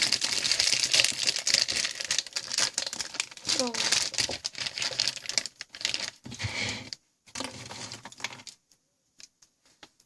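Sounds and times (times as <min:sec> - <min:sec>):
plastic snack bag crinkling: 0:00.0 - 0:09.3.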